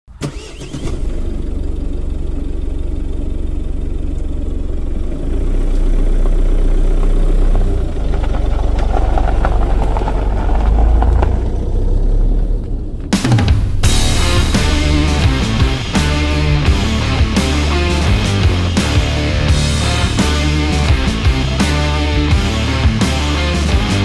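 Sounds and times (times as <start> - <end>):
vehicle engine idling: 0.3 - 24.0.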